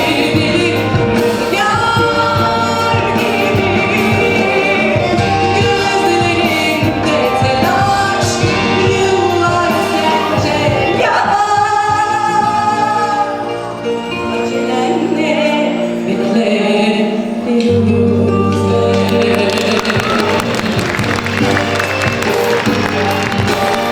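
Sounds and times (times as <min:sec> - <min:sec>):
instrumental accompaniment: 0:00.0 - 0:23.9
woman singing: 0:00.0 - 0:23.9.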